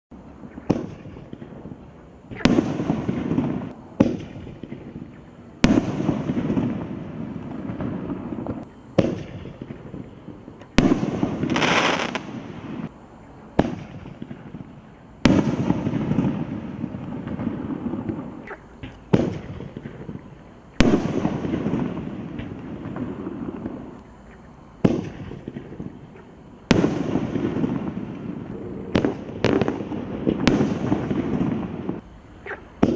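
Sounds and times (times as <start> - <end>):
firework bang and crackle: 0.4 - 12.9, 13.5 - 32.9.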